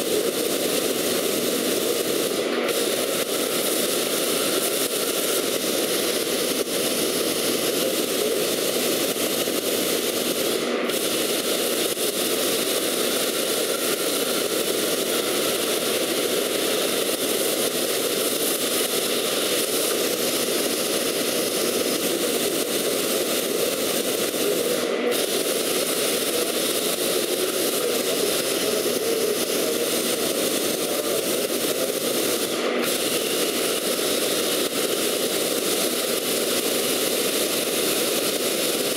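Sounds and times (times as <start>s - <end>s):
plasma torch cutting steel hiss: 0.0s - 38.9s.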